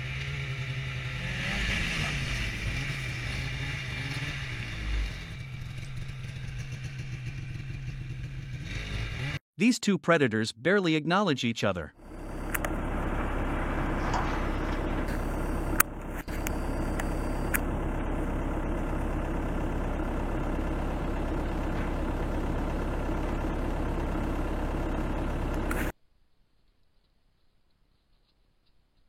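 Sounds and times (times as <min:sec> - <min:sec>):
vehicle engine idling: 0:00.0 - 0:09.4, 0:12.0 - 0:25.9.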